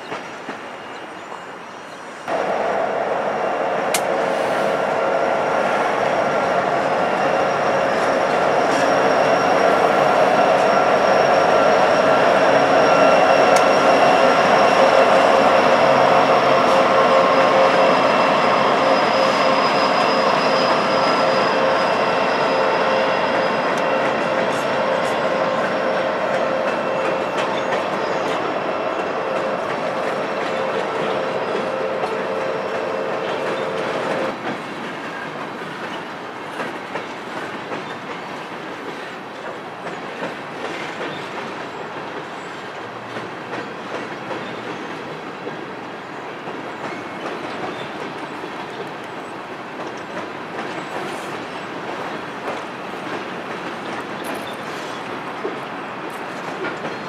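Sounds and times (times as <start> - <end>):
diesel locomotive hum: 2.3 - 57.0
train wheels clattering over rail joints: 6.0 - 57.0.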